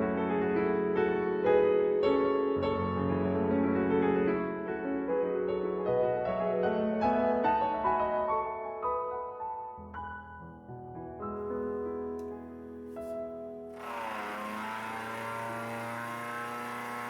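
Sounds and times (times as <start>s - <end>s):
gentle piano melody: 0.0s - 13.8s.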